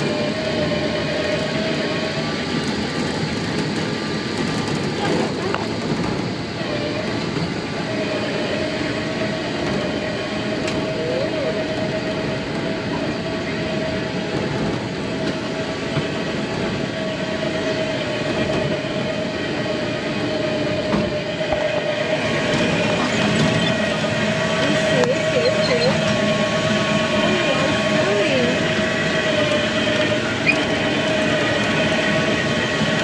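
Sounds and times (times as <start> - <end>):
vehicle engine rumbling: 0.0 - 33.0
mid-pitched whine: 5.0 - 33.0.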